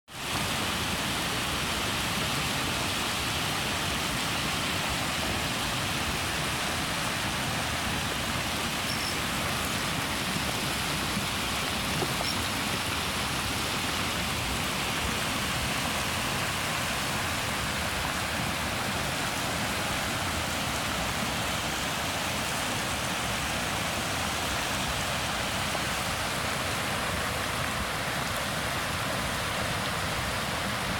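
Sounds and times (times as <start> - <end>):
hot spring water churning: 0.1 - 30.9
river rapids: 0.1 - 30.9.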